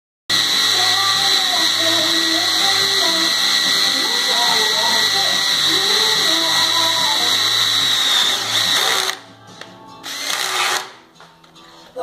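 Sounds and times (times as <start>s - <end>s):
drill whining through steel: 0.3s - 9.2s, 10.0s - 11.0s.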